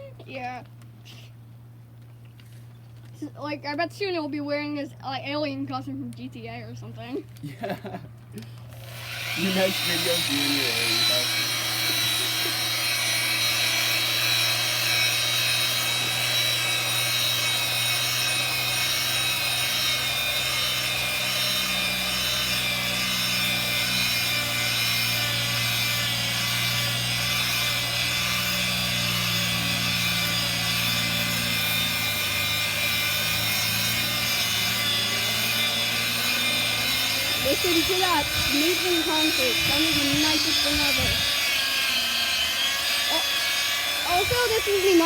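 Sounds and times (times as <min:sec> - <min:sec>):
power sander grinding concrete: 0:07.6 - 0:45.0.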